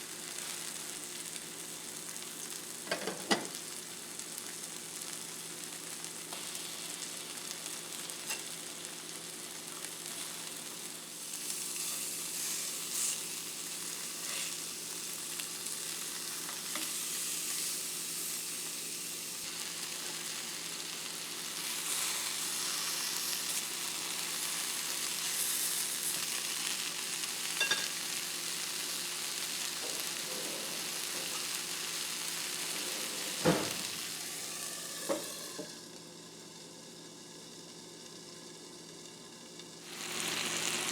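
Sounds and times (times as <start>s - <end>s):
food sizzling in frying pan: 0.0s - 40.9s.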